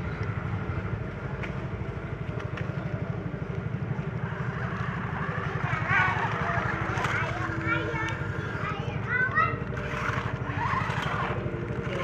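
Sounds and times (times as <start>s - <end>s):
motor running with low pulse: 0.0s - 12.0s.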